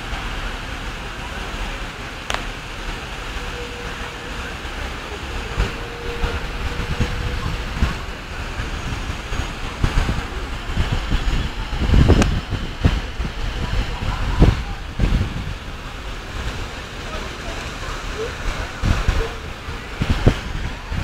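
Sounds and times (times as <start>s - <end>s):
fountain splashing: 0.0s - 21.0s
traffic: 0.0s - 21.0s
wind buffeting microphone: 0.0s - 21.0s.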